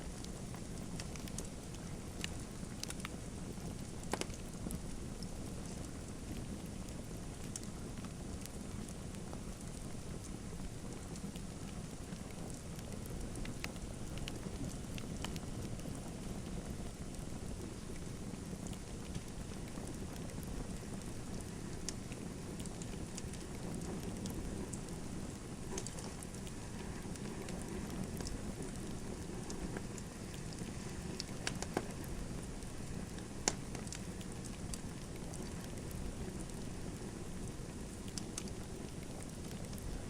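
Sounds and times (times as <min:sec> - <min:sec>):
fire crackles and pops: 0:00.0 - 0:40.0
low rustle of flames: 0:00.0 - 0:40.0.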